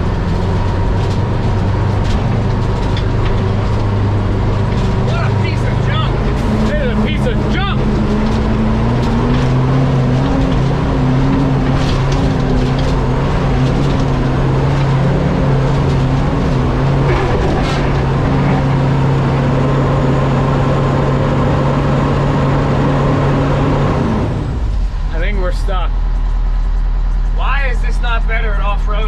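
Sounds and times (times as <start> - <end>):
fire truck engine straining: 0.0 - 29.0.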